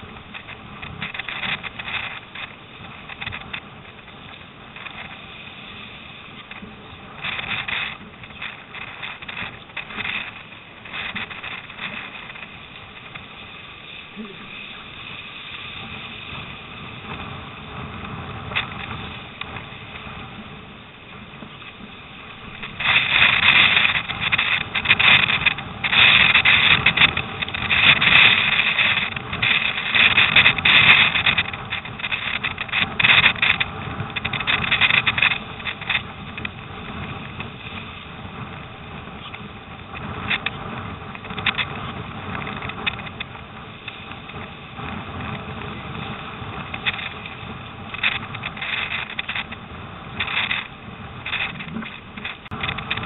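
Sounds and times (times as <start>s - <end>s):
choppy water splashing: 0.0s - 53.0s
storm wind: 0.0s - 53.0s.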